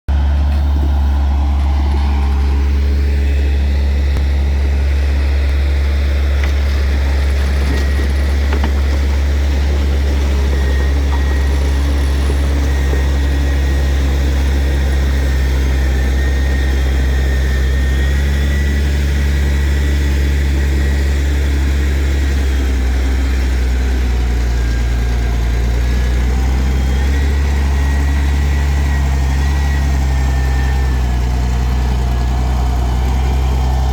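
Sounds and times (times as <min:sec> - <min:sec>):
heavy diesel engine droning: 0:00.1 - 0:33.9.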